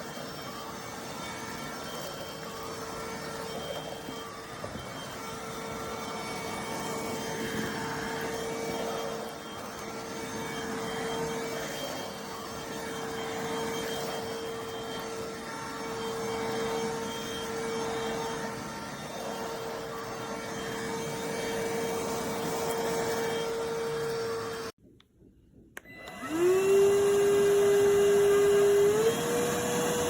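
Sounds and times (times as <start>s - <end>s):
stick vacuum cleaner running: 0.0s - 24.8s, 25.8s - 30.0s.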